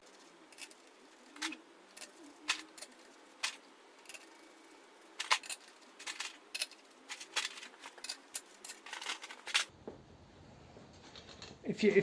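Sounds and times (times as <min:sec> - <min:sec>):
small metal parts clinking: 0:00.1 - 0:09.7.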